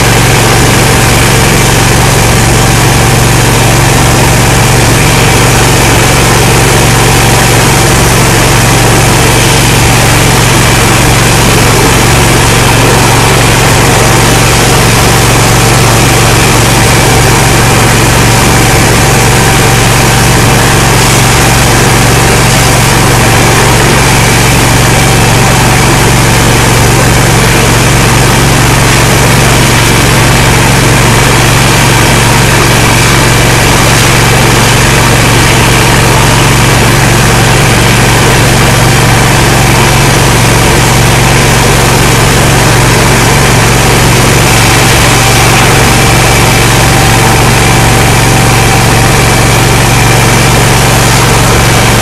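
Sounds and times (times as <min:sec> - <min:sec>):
high-pressure pump droning: 0:00.0 - 0:52.0.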